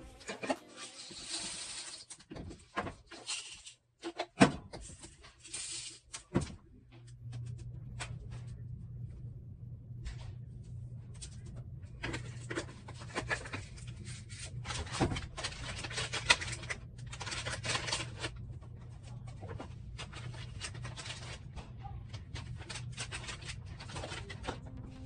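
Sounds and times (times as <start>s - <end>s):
low steady hum: 4.9s - 25.0s.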